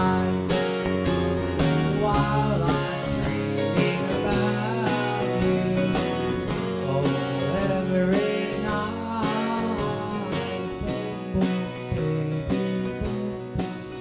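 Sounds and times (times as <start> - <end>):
strummed acoustic guitar: 0.0 - 14.0
sustained melody line: 0.0 - 14.0.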